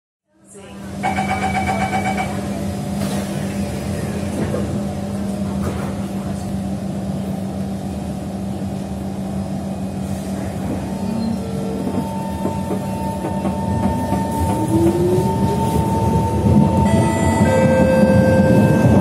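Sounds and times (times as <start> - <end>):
train electrical hum and rumble: 0.3 - 19.0.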